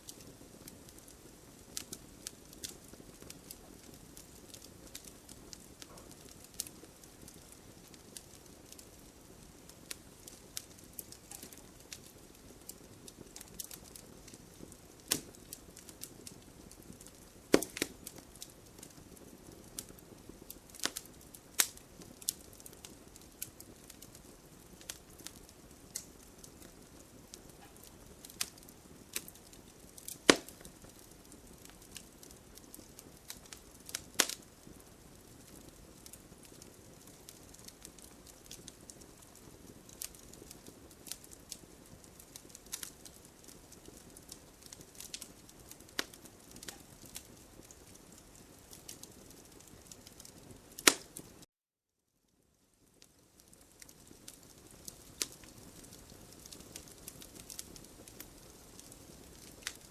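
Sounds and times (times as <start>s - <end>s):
campfire crackling and popping: 0.0s - 51.5s, 52.6s - 59.9s
faint low hiss: 0.0s - 51.5s, 52.1s - 59.9s.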